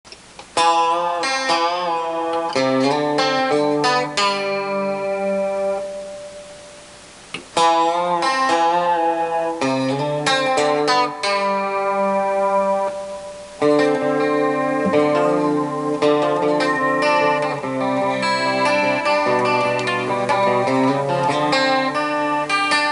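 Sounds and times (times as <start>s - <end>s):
plucked string music: 0.6s - 6.2s, 7.6s - 22.9s.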